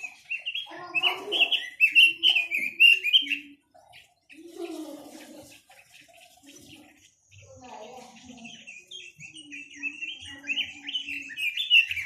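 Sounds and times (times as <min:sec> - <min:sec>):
songbird warbling and chirping: 0:00.0 - 0:12.0.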